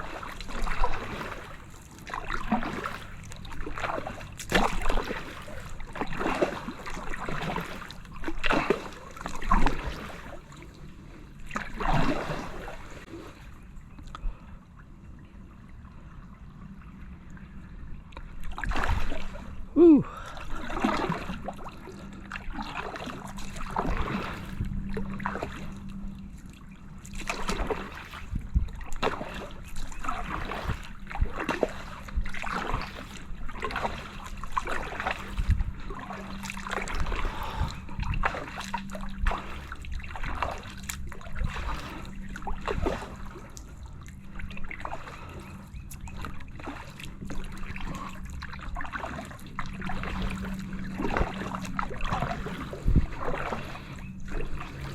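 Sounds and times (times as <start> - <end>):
kayak paddle splashing: 0.0 - 14.0, 18.1 - 54.9.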